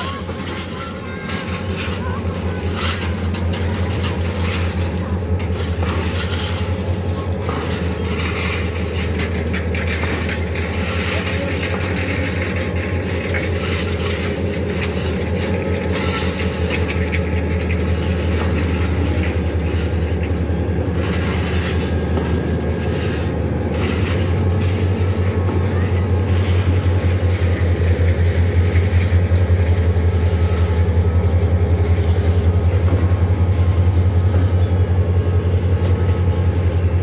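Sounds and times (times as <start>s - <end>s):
wagons clanking and rattling: 0.0s - 29.9s
locomotive engine hum: 0.0s - 37.0s.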